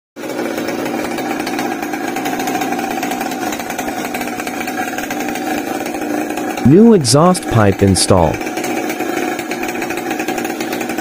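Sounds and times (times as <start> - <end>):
chainsaw engine running: 0.2 - 11.0.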